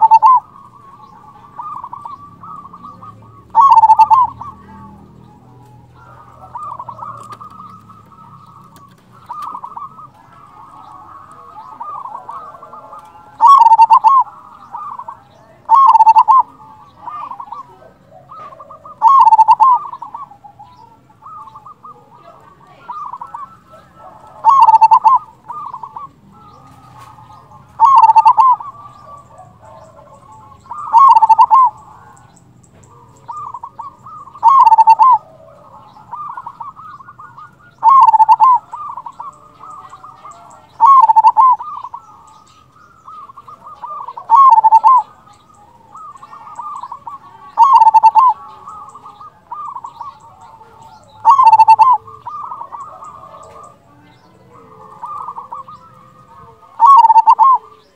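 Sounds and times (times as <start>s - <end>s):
faint cooing: 0.0s - 32.3s, 43.0s - 57.9s
dove cooing loudly: 0.0s - 57.9s.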